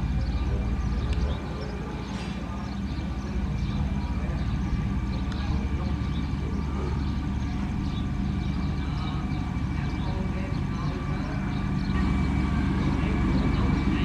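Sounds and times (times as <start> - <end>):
heavy diesel engine drone: 0.0 - 14.0.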